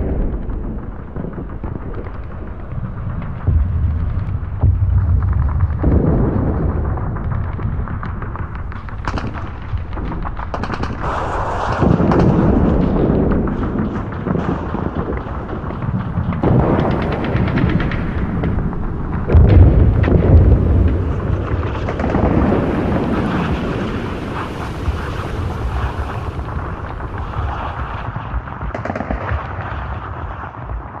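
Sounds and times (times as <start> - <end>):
heavy explosions: 0.0 - 31.0
rapid rifle and machine-gun fire: 0.0 - 31.0.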